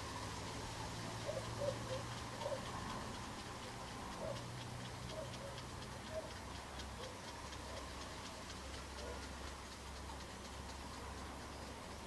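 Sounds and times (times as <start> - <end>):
high even ticking: 0.2 - 12.0.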